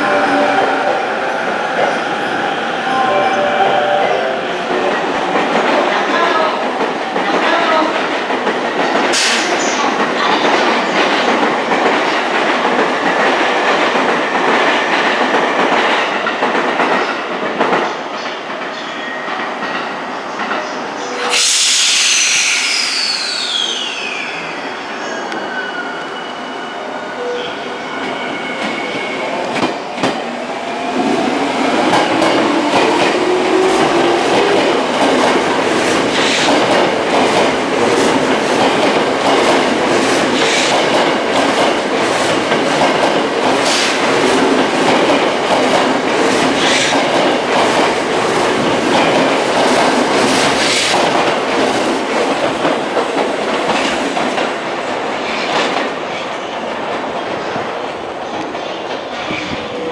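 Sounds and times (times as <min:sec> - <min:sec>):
subway train rumble: 0:00.0 - 0:59.9.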